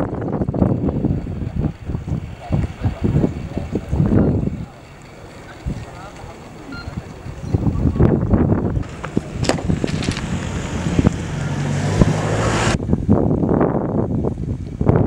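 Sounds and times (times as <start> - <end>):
coach engine running: 0.0 - 12.8
wind buffeting microphone: 0.0 - 15.0.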